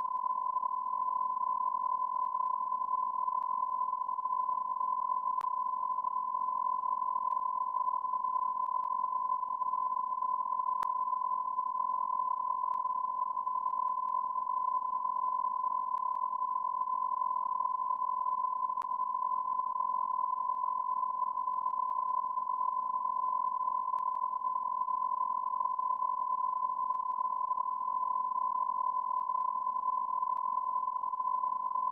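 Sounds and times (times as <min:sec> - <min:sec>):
long electronic beep tone: 0:00.0 - 0:31.9.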